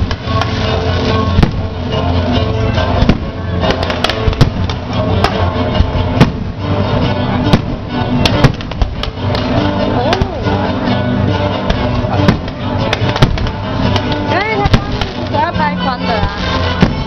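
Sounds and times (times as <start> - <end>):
fireworks exploding: 0.0 - 10.6, 11.6 - 17.0
music with sustained notes: 0.0 - 17.0.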